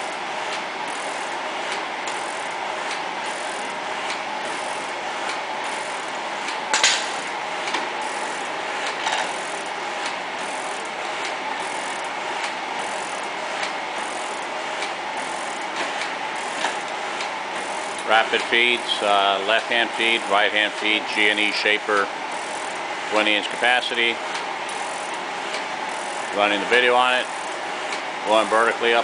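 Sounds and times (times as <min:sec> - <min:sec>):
mechanical shaper running: 0:00.0 - 0:29.0.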